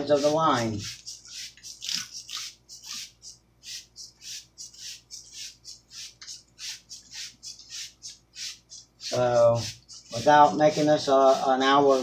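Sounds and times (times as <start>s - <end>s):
spray bottle spritzing fabric: 0.0s - 12.0s.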